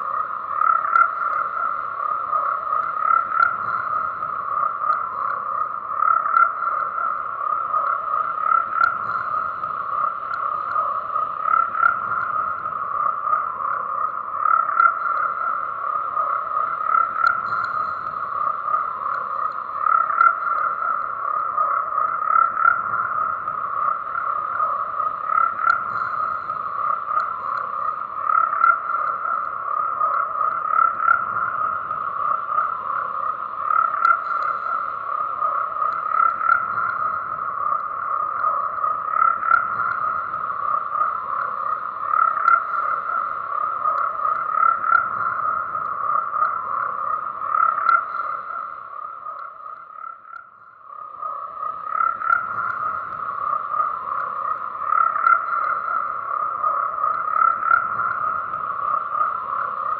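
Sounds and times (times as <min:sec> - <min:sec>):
chorus of frogs calling: 0:00.0 - 0:59.9.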